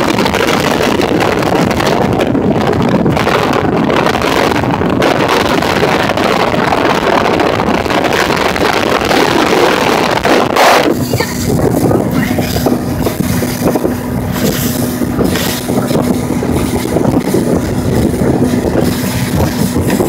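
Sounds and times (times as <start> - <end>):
boat engine running: 0.0 - 20.0
water rushing along hull: 0.0 - 20.0
wind buffeting microphone: 0.0 - 20.0.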